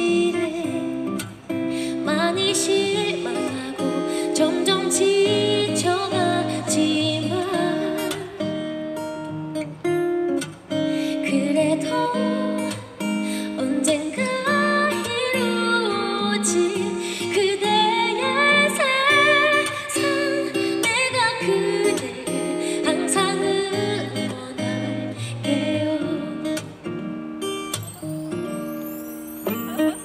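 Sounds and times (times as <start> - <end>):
woman singing into a microphone: 0.0 - 9.2, 10.7 - 30.0
strummed acoustic guitar: 0.0 - 30.0.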